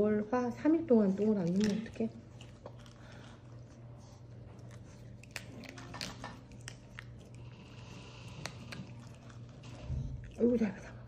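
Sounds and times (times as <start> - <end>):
steady low hum: 0.0 - 11.0
dog chewing and lip-smacking: 0.9 - 11.0.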